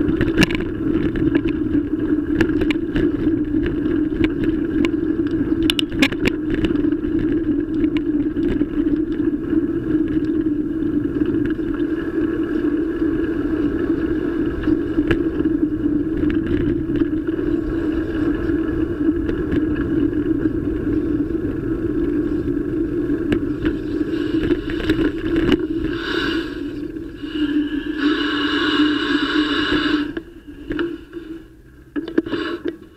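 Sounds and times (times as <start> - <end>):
bicycle tyres on paved path: 0.0 - 32.9
wind noise: 0.0 - 32.9.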